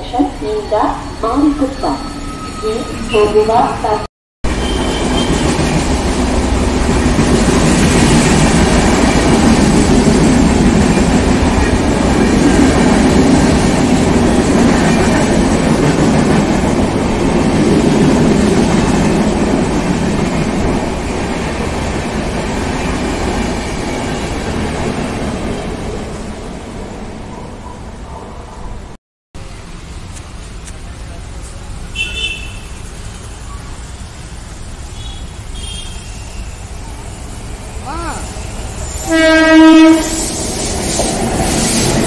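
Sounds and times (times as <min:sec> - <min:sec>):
train wheels running on rail: 0:04.5 - 0:26.0, 0:29.5 - 0:42.0.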